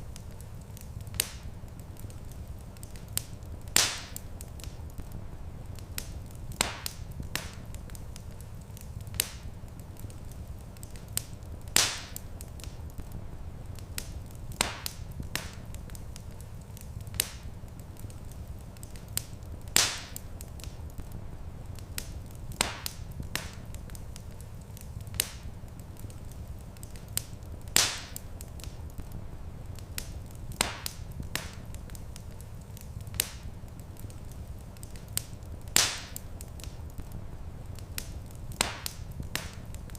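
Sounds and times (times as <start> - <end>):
fire pops: 0.0 - 39.9
wood fire crackling: 0.0 - 39.9.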